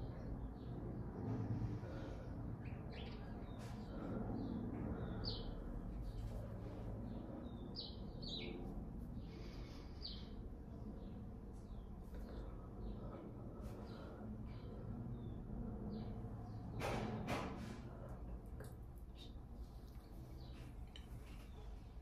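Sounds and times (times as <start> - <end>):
low background rumble: 0.0 - 22.0
small birds chirping: 0.0 - 22.0.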